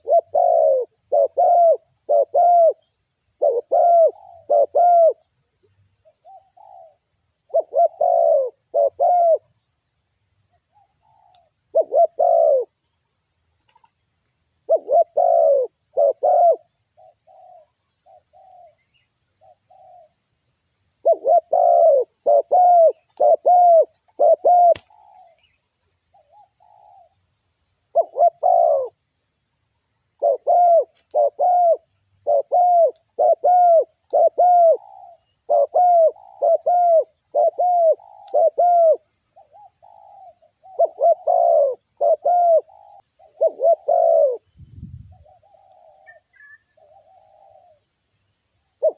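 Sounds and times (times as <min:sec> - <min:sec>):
doves cooing: 0:00.0 - 0:05.4, 0:06.0 - 0:09.6, 0:10.6 - 0:12.8, 0:14.6 - 0:20.2, 0:21.0 - 0:27.2, 0:27.9 - 0:29.1, 0:30.1 - 0:44.5, 0:45.1 - 0:47.9.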